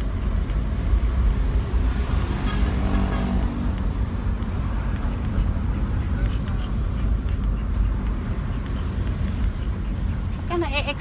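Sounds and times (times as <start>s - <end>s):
passing vehicle engine: 0.0s - 10.5s
car road and engine rumble: 0.0s - 11.0s.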